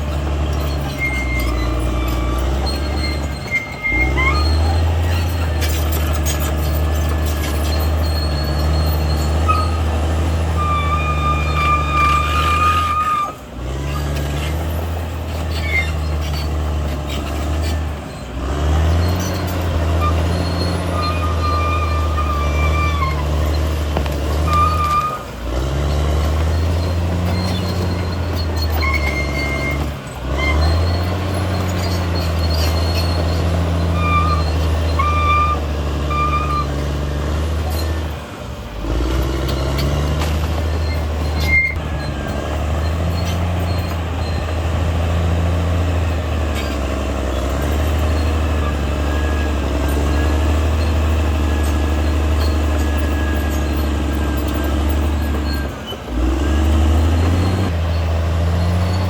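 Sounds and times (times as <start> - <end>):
short high squeaks: 0.0 - 38.3, 39.0 - 59.0
bulldozer diesel engine running: 0.0 - 59.0.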